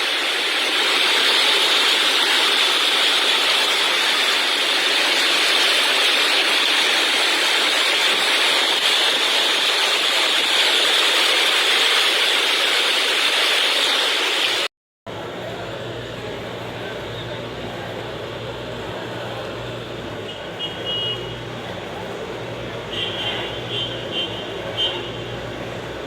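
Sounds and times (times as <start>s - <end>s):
water rushing in a street: 0.0s - 26.0s.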